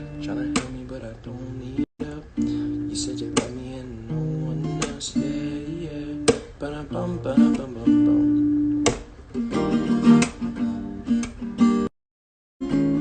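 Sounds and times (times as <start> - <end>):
acoustic string instrument strummed: 0.0 - 11.9, 12.6 - 13.0.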